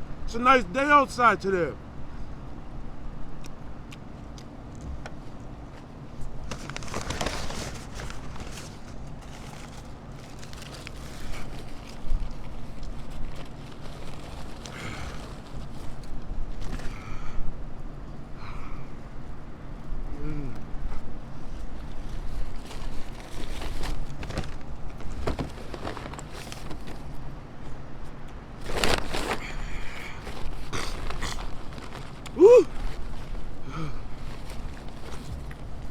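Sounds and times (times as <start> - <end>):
crackling and crinkling: 3.4 - 17.3, 20.2 - 35.9
rustling and handling noise: 3.9 - 18.4, 19.2 - 35.9.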